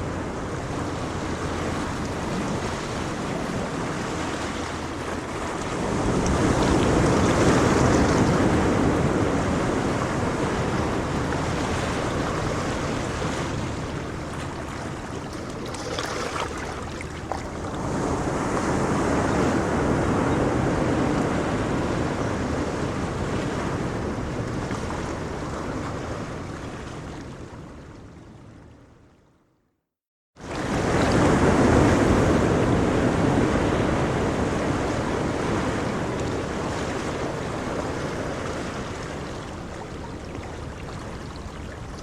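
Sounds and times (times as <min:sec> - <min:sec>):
sea waves washing onto shore: 0:00.0 - 0:26.6, 0:30.4 - 0:42.0.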